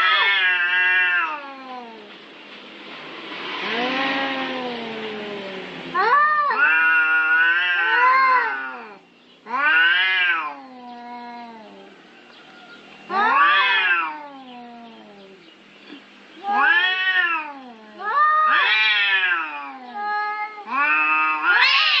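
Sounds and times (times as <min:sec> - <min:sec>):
cats caterwauling: 0:00.0 - 0:02.1, 0:03.6 - 0:12.0, 0:13.1 - 0:15.4, 0:16.4 - 0:22.0.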